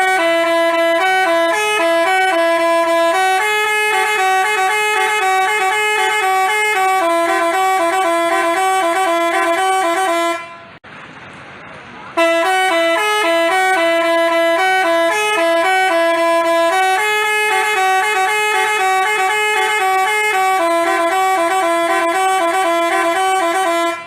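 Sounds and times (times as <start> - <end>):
multi-tone horn playing melody: 0.0 - 10.8, 12.2 - 24.0.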